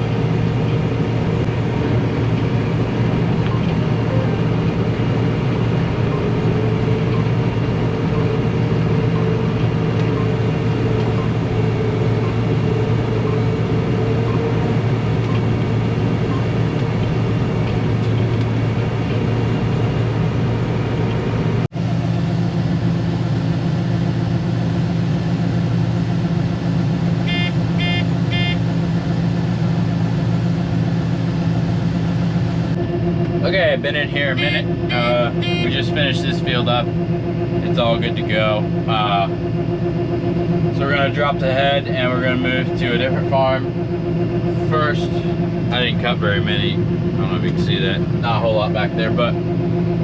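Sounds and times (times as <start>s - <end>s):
combine harvester engine drone: 0.0s - 50.0s.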